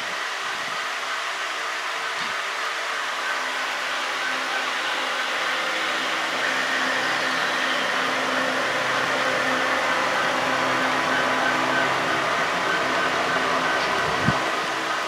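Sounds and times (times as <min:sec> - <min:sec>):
model train wheels whirring on track: 0:00.0 - 0:15.0.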